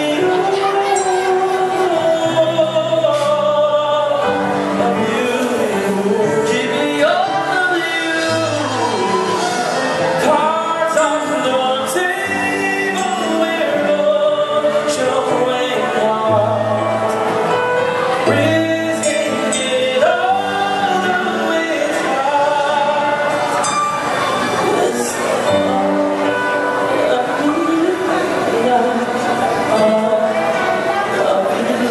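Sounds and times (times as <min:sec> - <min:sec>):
man singing into microphone: 0:00.0 - 0:31.9.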